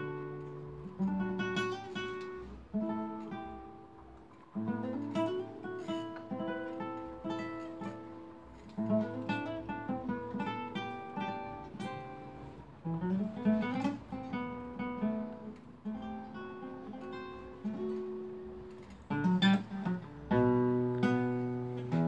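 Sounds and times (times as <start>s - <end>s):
fingerstyle acoustic guitar: 0.0s - 22.0s.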